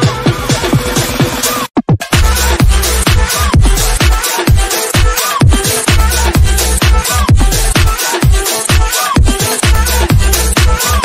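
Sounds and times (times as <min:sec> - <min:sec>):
deep kick drum beating: 0:00.0 - 0:11.0
electronic dance music: 0:00.0 - 0:11.0.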